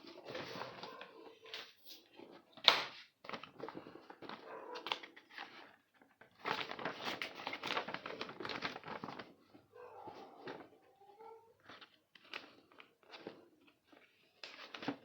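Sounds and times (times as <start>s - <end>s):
plastic and cardboard crinkling: 0.0s - 15.0s.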